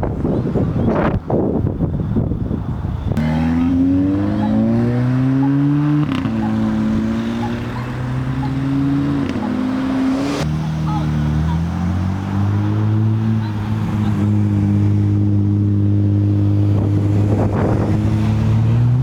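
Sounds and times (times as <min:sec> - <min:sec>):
car engine accelerating: 0:03.2 - 0:19.0.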